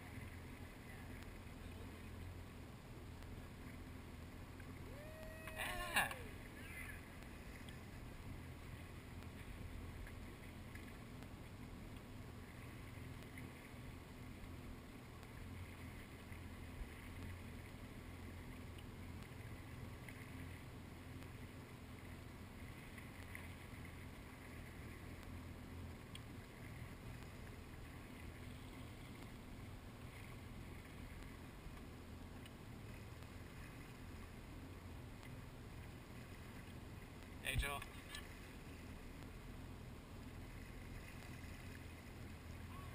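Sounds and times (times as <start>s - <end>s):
distant jet ski engine: 0.0s - 42.9s
water noise: 0.0s - 42.9s.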